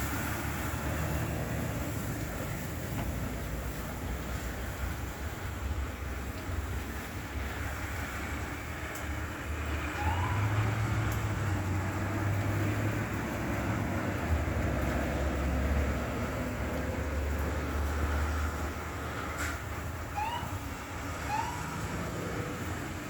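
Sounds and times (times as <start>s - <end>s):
low rumble of vehicle engines: 0.0s - 23.0s
road hiss: 0.0s - 23.0s.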